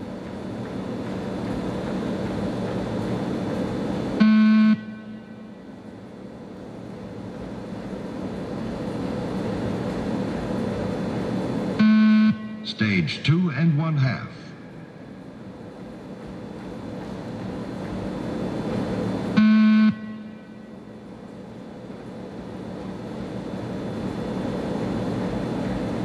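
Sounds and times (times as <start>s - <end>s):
room noise hum: 0.0s - 26.0s.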